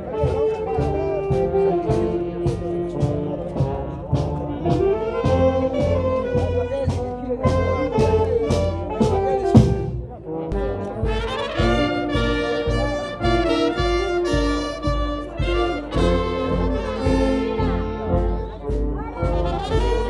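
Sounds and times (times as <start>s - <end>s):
brass band playing: 0.0s - 20.0s
heavy bass beats: 0.0s - 20.0s
tuba: 0.0s - 20.0s.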